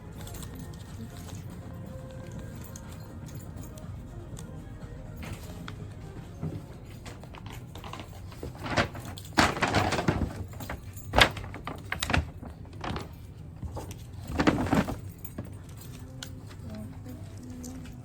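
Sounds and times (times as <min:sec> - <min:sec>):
rustling and handling noises: 0:00.0 - 0:18.0.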